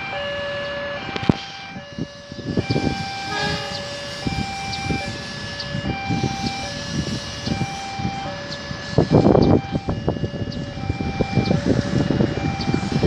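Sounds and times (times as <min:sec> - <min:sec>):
two-tone electronic warning signal: 0:00.0 - 0:13.0
diesel train rumbling: 0:01.9 - 0:13.0.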